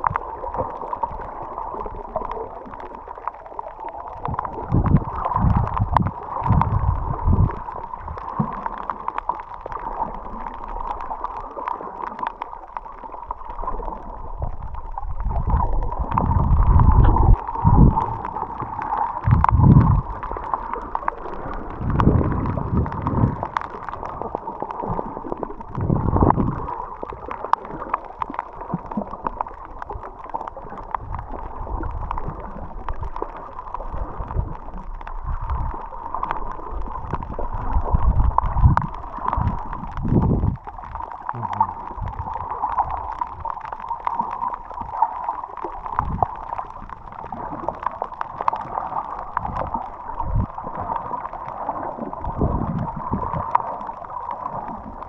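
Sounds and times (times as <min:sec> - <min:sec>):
underwater gurgling water: 0:00.0 - 0:55.0.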